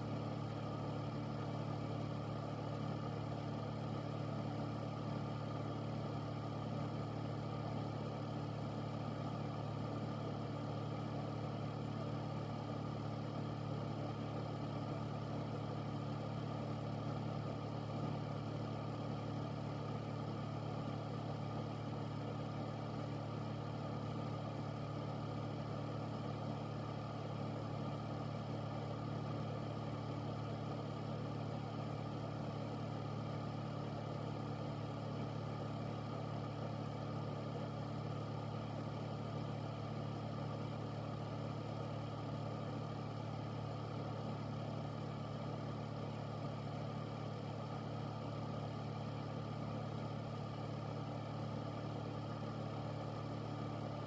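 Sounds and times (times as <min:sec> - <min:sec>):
air purifier humming: 0:00.0 - 0:54.0.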